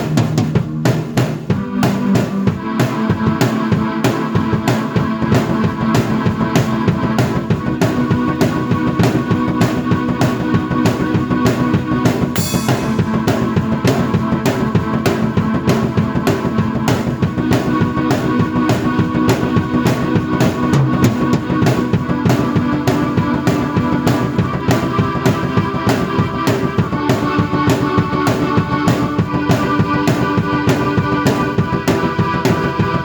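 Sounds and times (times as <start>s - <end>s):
drum kit beat: 0.0s - 33.0s
held keyboard chords: 0.0s - 33.0s.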